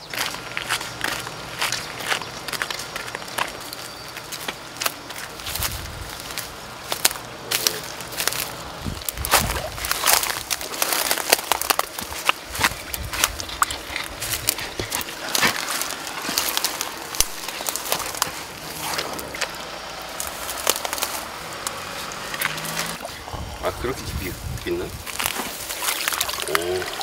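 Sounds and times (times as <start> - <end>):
reeds and grass rustling: 0.0 - 27.0.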